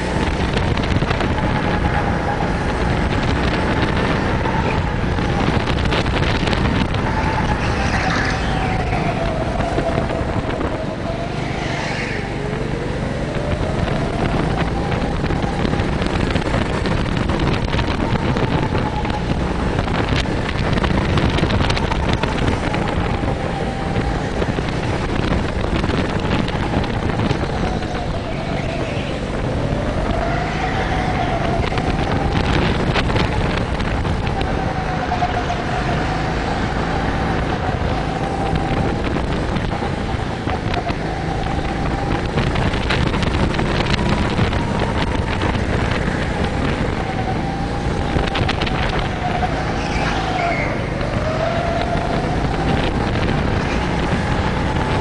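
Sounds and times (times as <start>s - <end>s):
go-kart motor running hard: 0.0s - 55.0s
wind noise on camera: 0.0s - 55.0s.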